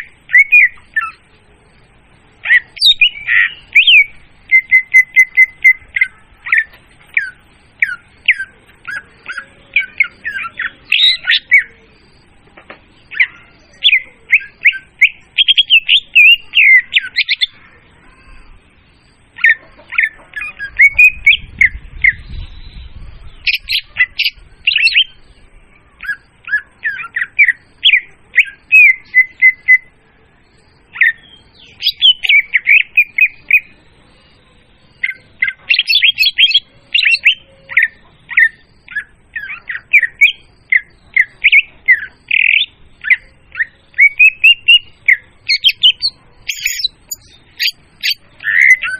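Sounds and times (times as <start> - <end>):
bird chirps and whistles: 0.0 - 1.2, 2.4 - 12.2, 13.0 - 18.5, 19.4 - 25.3, 26.0 - 29.9, 30.9 - 48.9.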